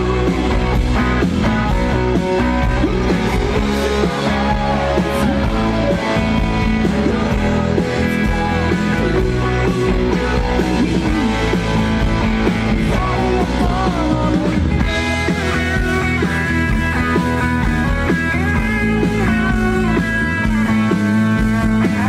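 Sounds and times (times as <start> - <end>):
electric guitar: 0.0 - 22.0
person singing: 0.0 - 22.0.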